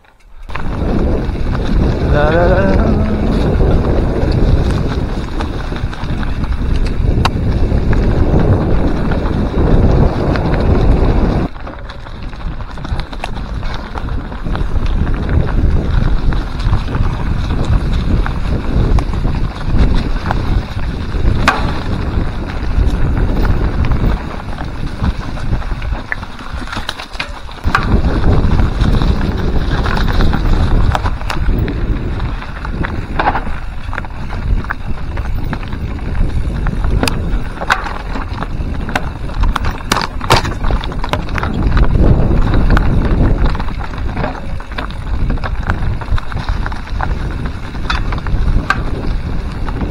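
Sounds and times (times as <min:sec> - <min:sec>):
bike rattling over trail: 0:00.0 - 0:49.9
wheels knocking on roots and rocks: 0:00.0 - 0:49.9
wind buffeting microphone: 0:00.3 - 0:49.9.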